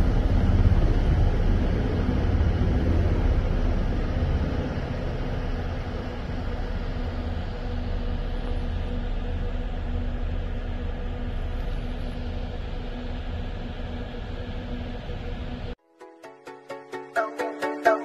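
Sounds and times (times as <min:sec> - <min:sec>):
faint high turbine whine: 0:00.0 - 0:15.8.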